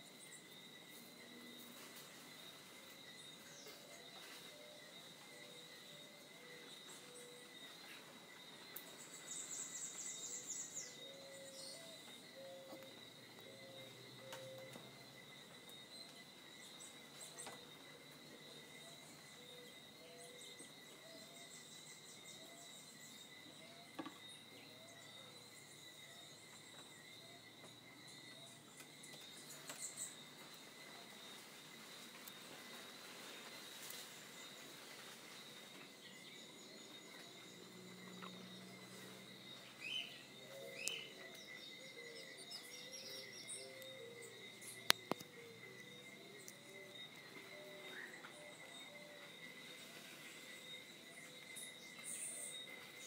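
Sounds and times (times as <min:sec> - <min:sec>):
birds chirping: 0:00.0 - 0:53.0
high-pitched insect drone: 0:00.0 - 0:53.0.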